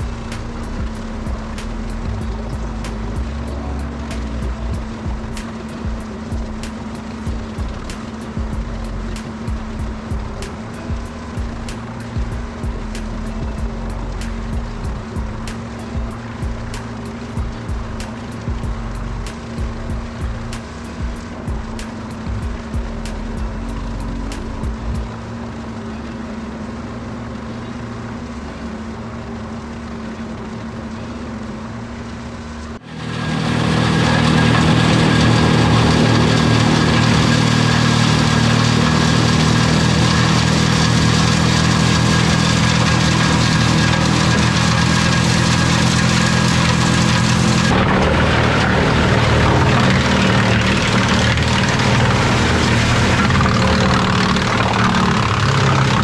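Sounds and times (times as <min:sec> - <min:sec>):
wood chipper running: 0:00.0 - 0:56.0.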